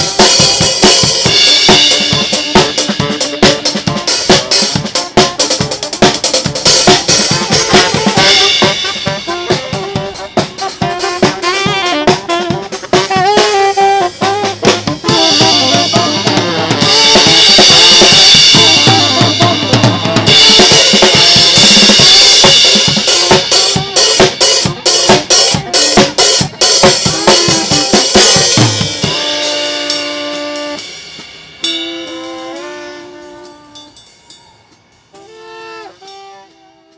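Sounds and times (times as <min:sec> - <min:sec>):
saxophone playing: 0:00.0 - 0:34.0, 0:35.1 - 0:36.9
drum kit playing: 0:00.0 - 0:36.9.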